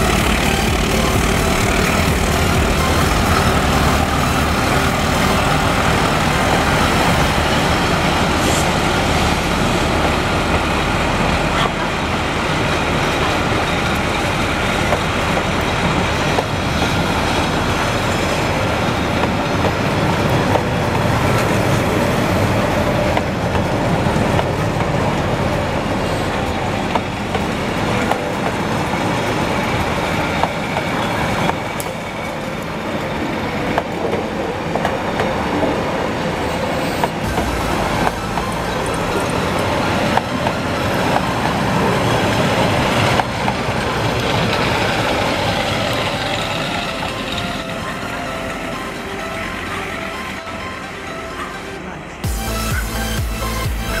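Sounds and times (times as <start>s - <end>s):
coaches rolling on rails: 0.0s - 52.7s
locomotive low rumble: 0.0s - 54.0s.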